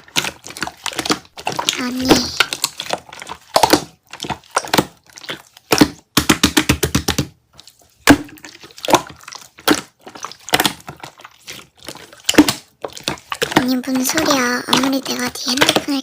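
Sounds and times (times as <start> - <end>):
slime crackling and popping: 0.0 - 16.0.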